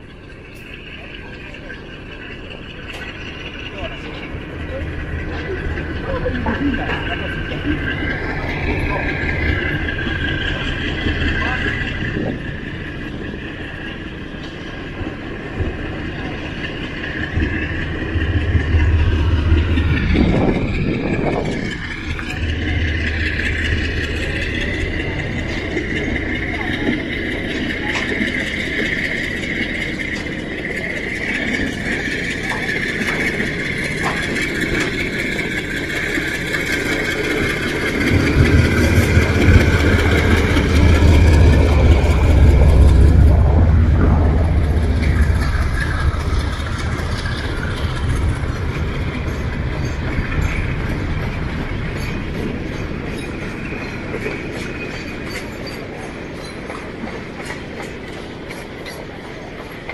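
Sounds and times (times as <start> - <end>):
steady high whine: 0.0 - 58.0
freight train engine rumble: 0.0 - 59.9
wagons rolling by: 0.0 - 59.9.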